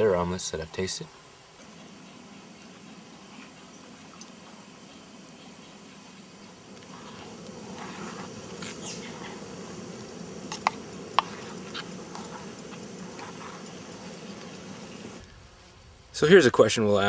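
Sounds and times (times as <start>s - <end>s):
camp stove humming: 1.5s - 15.4s.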